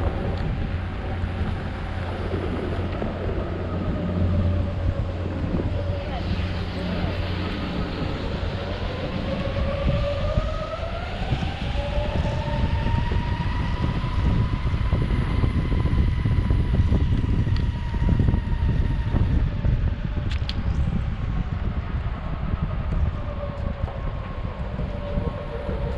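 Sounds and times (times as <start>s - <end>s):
electric skateboard motor whine: 0.0s - 25.9s
wheels rumbling on paving: 0.0s - 25.9s.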